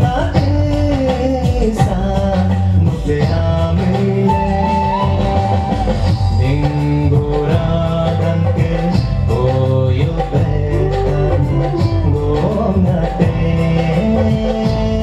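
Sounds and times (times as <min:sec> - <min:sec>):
instrumental fusion dance music: 0:00.0 - 0:15.0.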